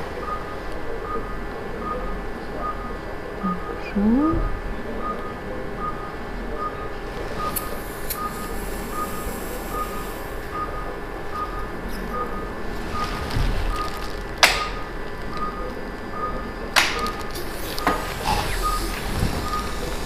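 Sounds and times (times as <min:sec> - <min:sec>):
patient monitor beeping: 0:00.0 - 0:20.0
steady hum: 0:00.0 - 0:20.0.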